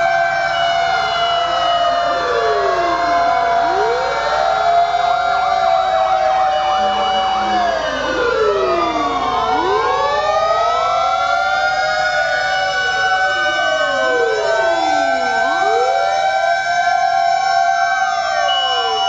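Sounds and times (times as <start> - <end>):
fire engine sirens wailing: 0.0 - 19.0
siren yelp: 0.0 - 19.0.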